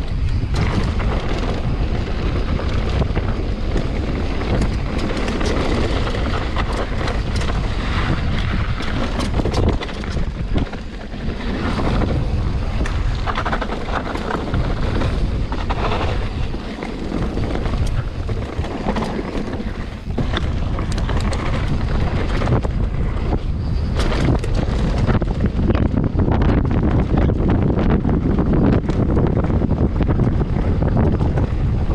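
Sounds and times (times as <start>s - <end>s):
bike rattling and knocking: 0.0s - 31.9s
wind on microphone: 0.0s - 31.9s.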